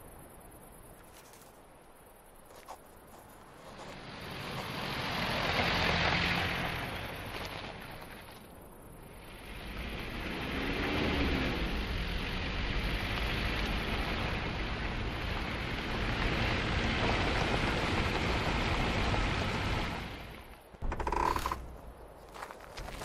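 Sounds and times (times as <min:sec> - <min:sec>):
car engine and road noise: 0:02.4 - 0:23.0.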